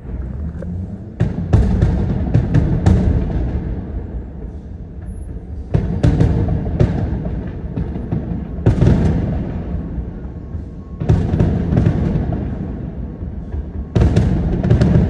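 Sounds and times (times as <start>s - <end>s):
firework shells booming: 0.0s - 15.0s.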